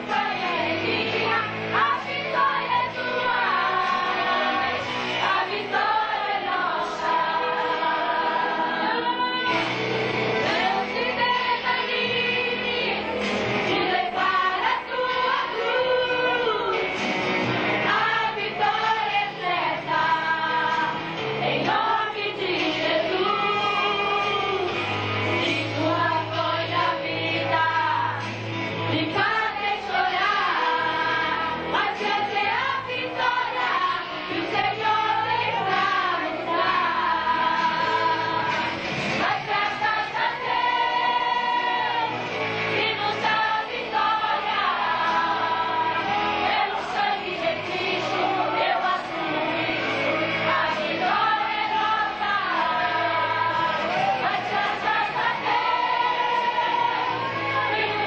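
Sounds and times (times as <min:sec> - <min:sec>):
women's choir singing a hymn: 0:00.0 - 0:58.0.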